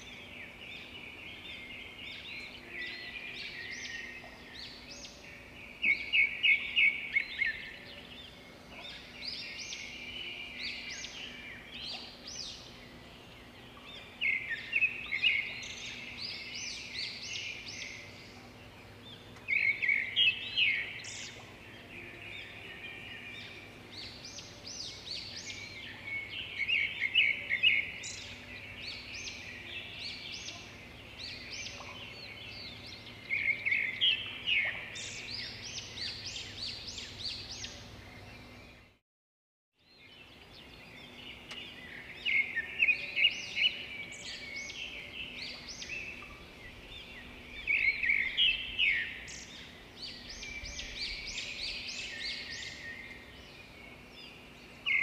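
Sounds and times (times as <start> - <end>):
small birds chirping: 0.0 - 39.0, 39.8 - 55.0.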